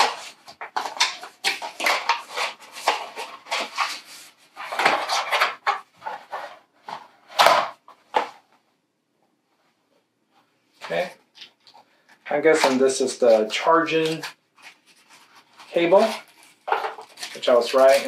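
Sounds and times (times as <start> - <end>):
packaging rustling and scraping: 0.0 - 8.4, 10.8 - 18.0.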